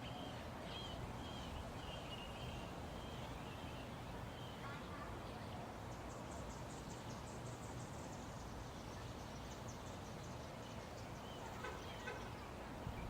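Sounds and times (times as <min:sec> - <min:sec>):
faint bird chirps: 0:00.0 - 0:13.0
outdoor background noise: 0:00.0 - 0:13.0.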